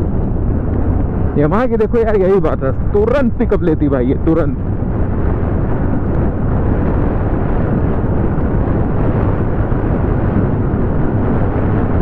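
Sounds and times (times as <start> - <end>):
road noise: 0.0 - 12.0
wind buffeting microphone: 0.0 - 12.0.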